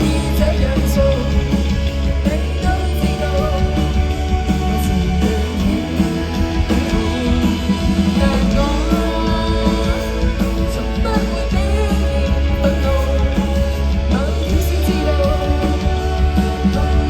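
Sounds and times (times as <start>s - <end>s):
guitars and bass playing: 0.0s - 17.0s
person singing: 0.0s - 17.0s.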